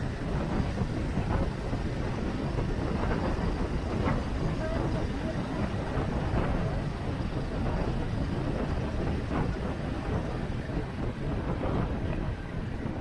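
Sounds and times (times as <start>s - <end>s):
heavy wind rumble on microphone: 0.0s - 13.0s.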